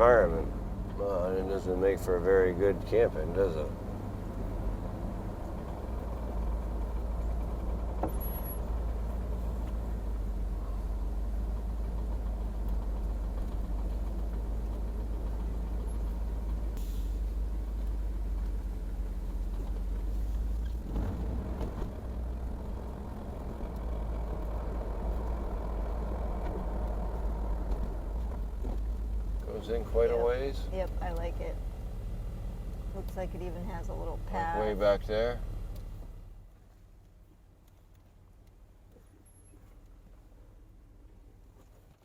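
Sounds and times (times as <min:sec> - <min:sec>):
truck engine and road rumble: 0:00.0 - 0:42.0.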